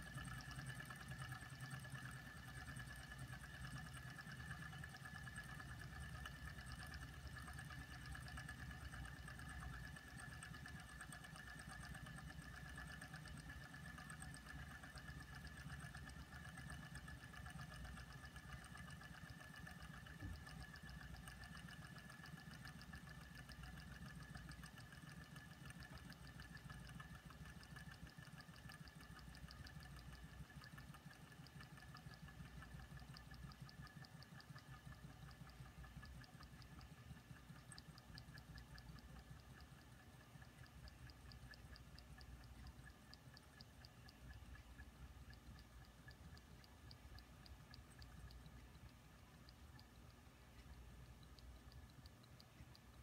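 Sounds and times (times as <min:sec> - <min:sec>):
small engines ticking and humming: 0:00.0 - 0:53.0.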